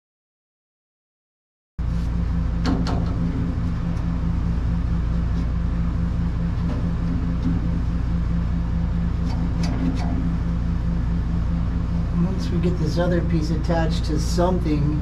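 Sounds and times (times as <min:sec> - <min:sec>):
low machine hum: 0:01.8 - 0:15.0.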